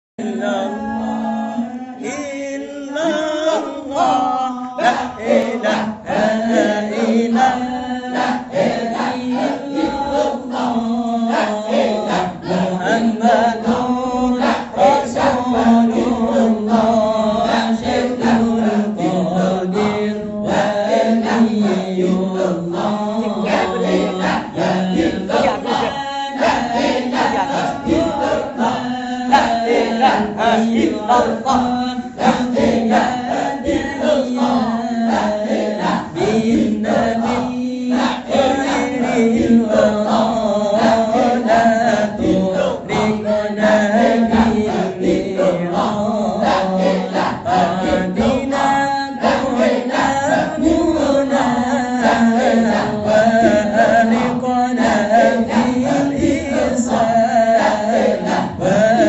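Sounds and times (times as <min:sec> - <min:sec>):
boy chanting: 0:00.2 - 0:59.0.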